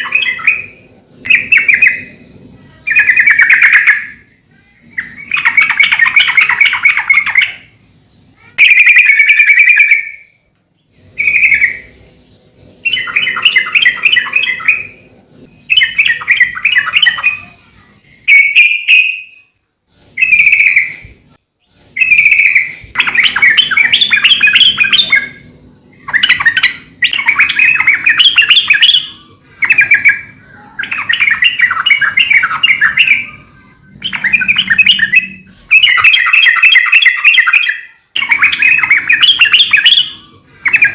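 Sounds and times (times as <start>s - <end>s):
bird chattering song: 0.0s - 19.6s, 20.2s - 40.9s.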